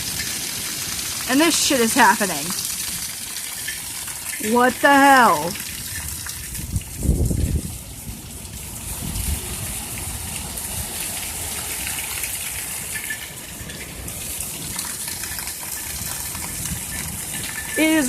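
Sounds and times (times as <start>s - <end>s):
torrential rain pouring: 0.0s - 18.0s.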